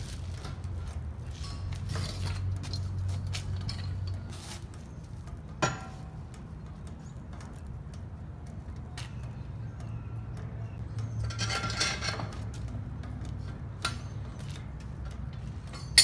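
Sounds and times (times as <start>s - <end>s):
metal tools clinking on wheel rim: 0.0s - 16.0s.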